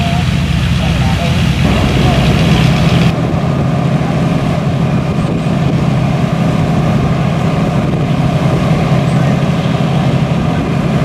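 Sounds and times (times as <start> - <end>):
fire engines running under load: 0.0 - 11.0.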